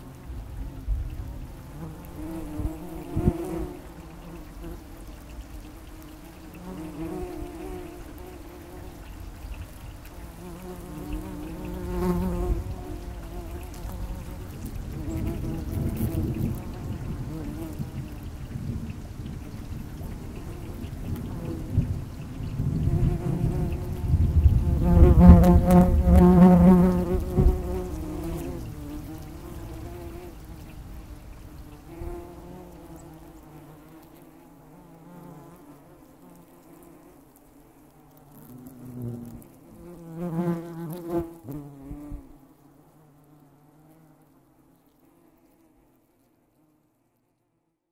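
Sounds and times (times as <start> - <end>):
wasps buzzing in flight: 0.0 - 45.8.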